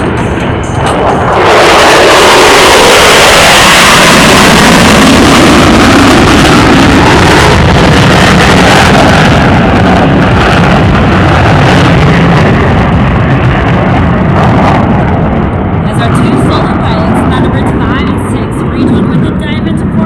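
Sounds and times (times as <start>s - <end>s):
jet passing: 0.0s - 20.0s.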